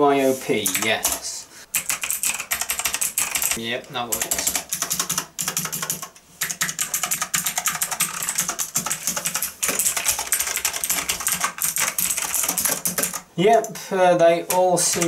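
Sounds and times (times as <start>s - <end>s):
fast typing on mechanical keyboard: 0.6s - 13.7s, 14.5s - 15.0s.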